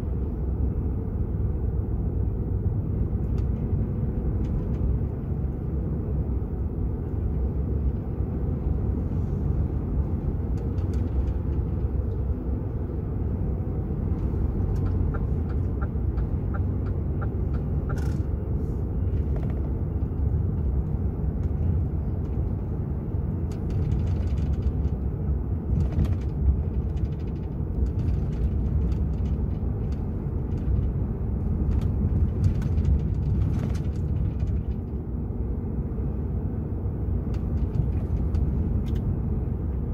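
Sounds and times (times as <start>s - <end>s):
truck diesel engine and road rumble: 0.0s - 39.9s.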